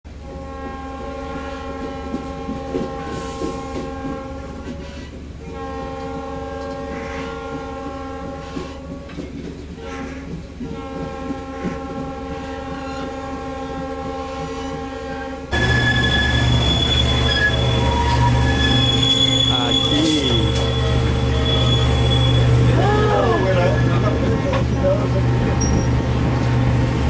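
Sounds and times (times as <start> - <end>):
train horn blasts: 0.1 - 24.4
train rumbling on rails: 0.1 - 27.0.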